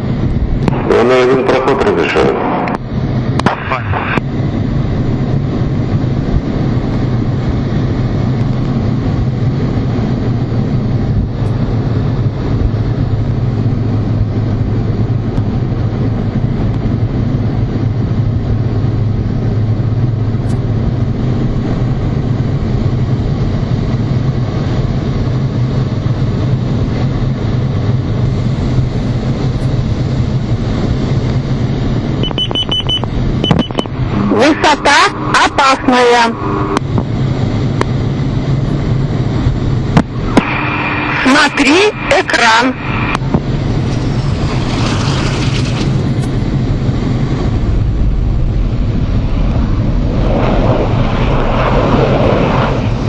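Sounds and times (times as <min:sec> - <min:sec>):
jet cockpit engine drone: 0:00.0 - 0:53.0.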